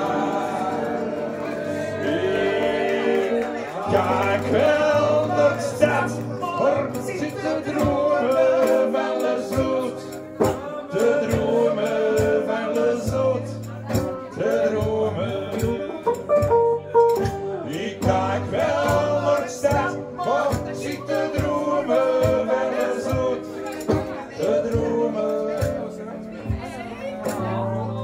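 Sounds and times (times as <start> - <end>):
acoustic guitars strumming: 0.0 - 28.0
man singing: 0.0 - 28.0.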